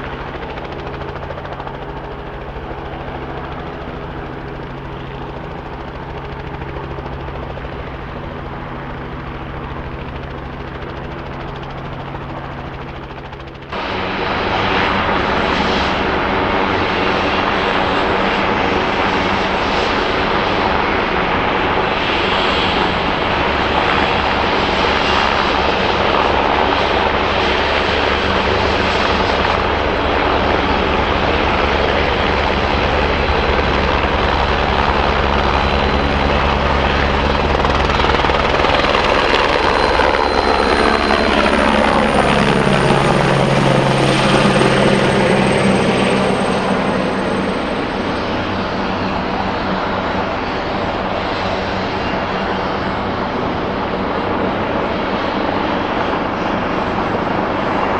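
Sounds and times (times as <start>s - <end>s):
helicopter rotor and engine: 0.0s - 57.9s.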